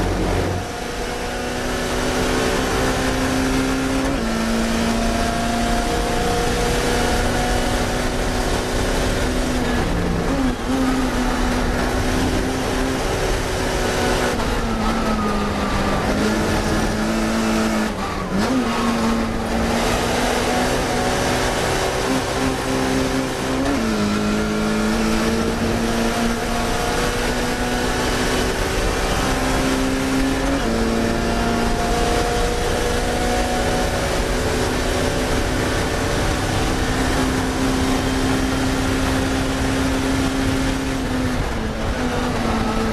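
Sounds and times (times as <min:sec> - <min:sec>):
race car engine revving: 0:00.0 - 0:42.9.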